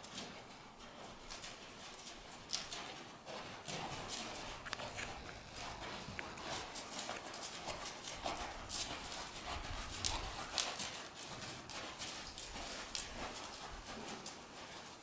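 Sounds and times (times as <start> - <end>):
horse hooves on sand: 0.0 - 15.0.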